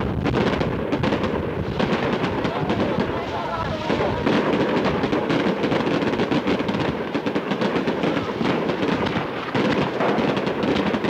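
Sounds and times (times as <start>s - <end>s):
firecrackers bursting: 0.0s - 11.0s.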